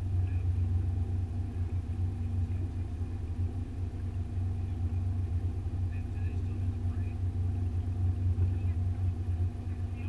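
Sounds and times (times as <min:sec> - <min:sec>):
boat motor rumbling: 0:00.0 - 0:10.0
steady hum: 0:00.0 - 0:10.0.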